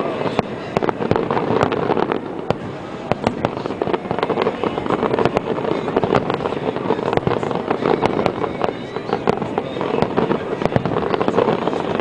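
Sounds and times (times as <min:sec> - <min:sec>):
fireworks shells bursting: 0:00.1 - 0:12.0.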